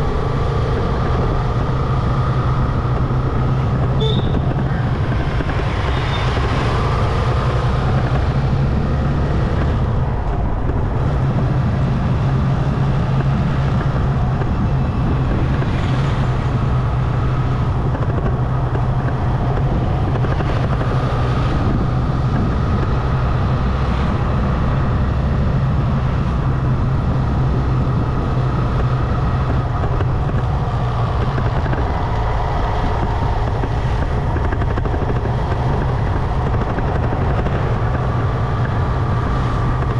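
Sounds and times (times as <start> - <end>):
motorcycle engine running: 0.0 - 39.9
tyre noise on road: 0.0 - 39.9
wind noise: 0.0 - 39.9.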